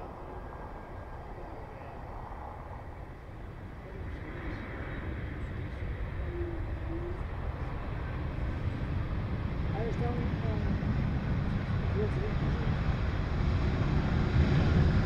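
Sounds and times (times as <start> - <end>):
airliner low rumble: 0.0 - 15.0
jet engines: 0.0 - 15.0.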